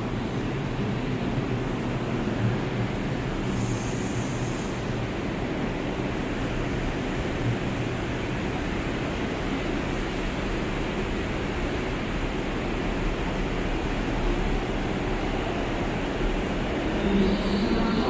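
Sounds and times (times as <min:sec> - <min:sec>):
steady noisy hiss: 0:00.0 - 0:18.0
subway train rumble: 0:00.0 - 0:18.0.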